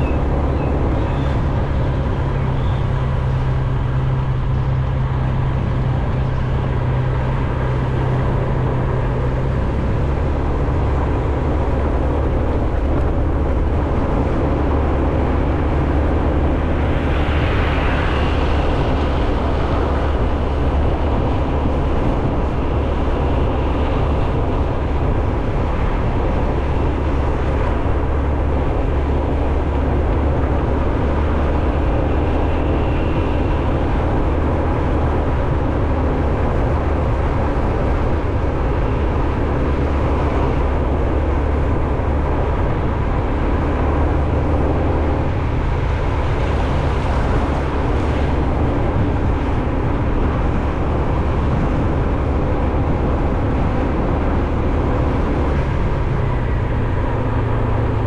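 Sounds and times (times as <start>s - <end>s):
moving vehicle rumble: 0.0s - 58.0s
wind noise on microphone: 0.0s - 58.0s.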